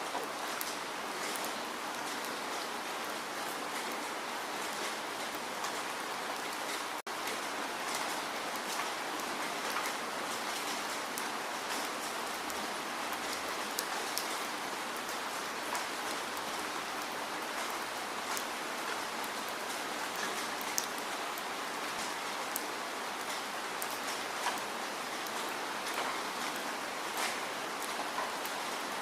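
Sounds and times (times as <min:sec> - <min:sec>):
raindrops ticking on surface: 0:00.0 - 0:29.0.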